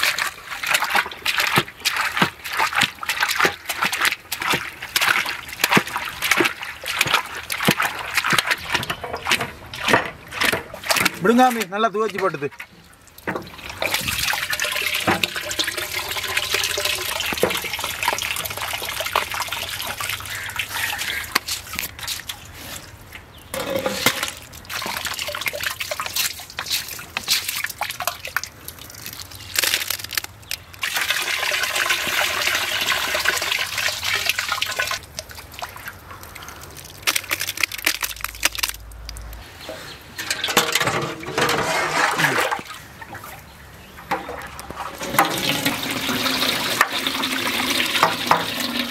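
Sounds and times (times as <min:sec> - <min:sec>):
water splashing and pouring: 0:00.0 - 0:48.9.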